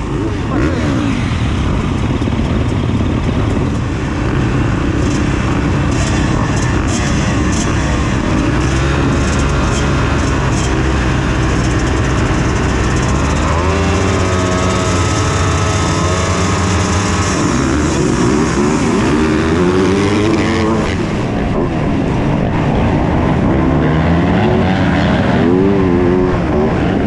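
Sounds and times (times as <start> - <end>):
motocross bike engine revving: 0.0 - 21.6, 23.2 - 27.0.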